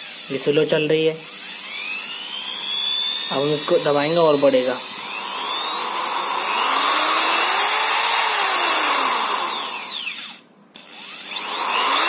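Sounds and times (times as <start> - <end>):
electric screwdriver motor whining: 1.2 - 12.0.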